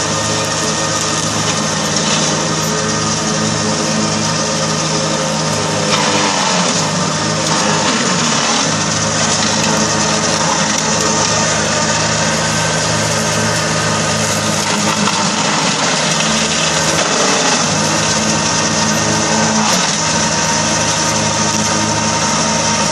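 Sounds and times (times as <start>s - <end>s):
rotary mower cutting grass: 0.0s - 22.9s
tractor diesel engine: 0.0s - 22.9s.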